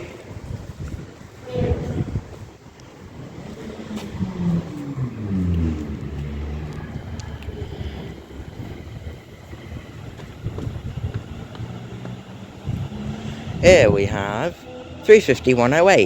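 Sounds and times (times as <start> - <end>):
electric train motors whining: 0.0 - 16.0.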